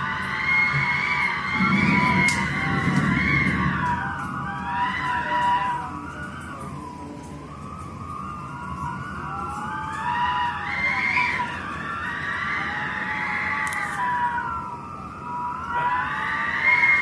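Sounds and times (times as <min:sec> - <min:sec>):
strong wind whistling: 0:00.0 - 0:17.0.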